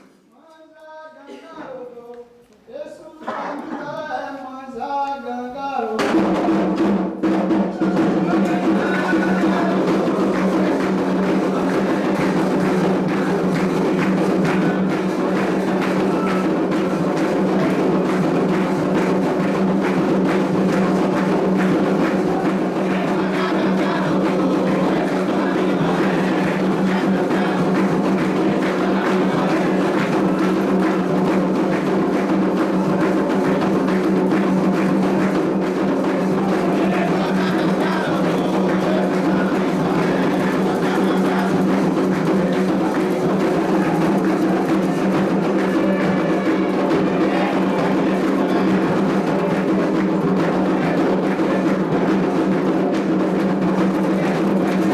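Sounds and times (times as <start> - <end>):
fast hand drumming: 6.0 - 54.9.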